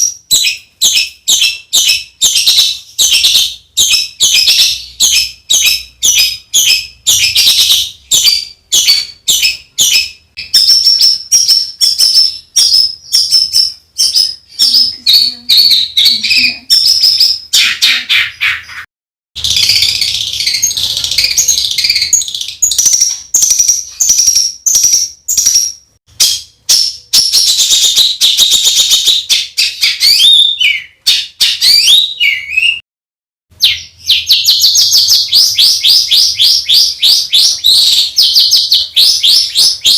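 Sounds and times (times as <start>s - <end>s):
songbird harsh rapid chirping: 0.0s - 32.8s, 33.6s - 39.9s.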